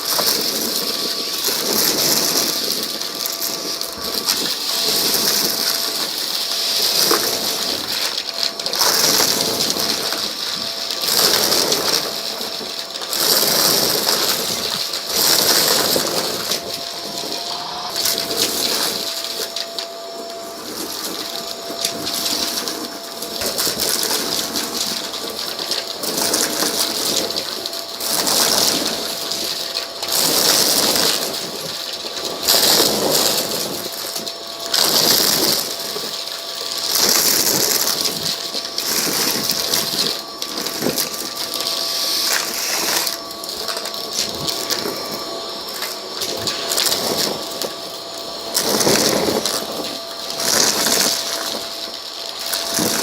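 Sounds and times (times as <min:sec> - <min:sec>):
debris rattling up a hose: 0:00.0 - 0:53.0
vacuum cleaner running: 0:00.0 - 0:53.0.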